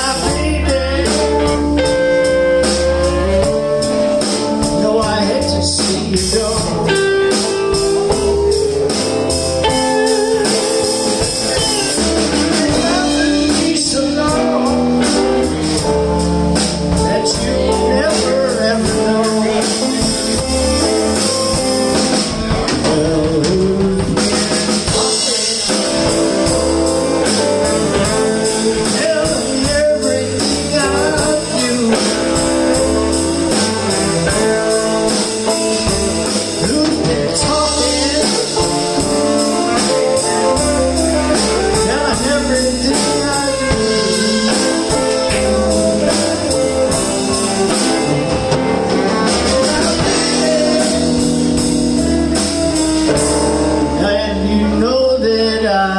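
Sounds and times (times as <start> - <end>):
electric blues band playing: 0.0 - 55.9
electric guitar: 0.0 - 55.9.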